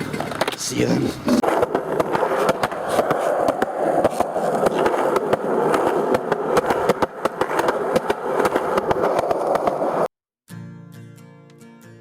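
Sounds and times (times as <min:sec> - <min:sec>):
skateboard wheels rolling on rough road: 0:00.0 - 0:10.1.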